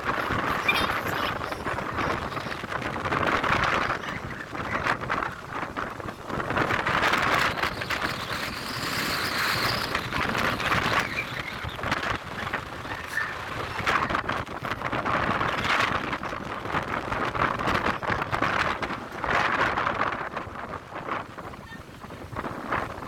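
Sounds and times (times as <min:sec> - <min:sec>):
gusty wind on microphone: 0:00.0 - 0:23.0.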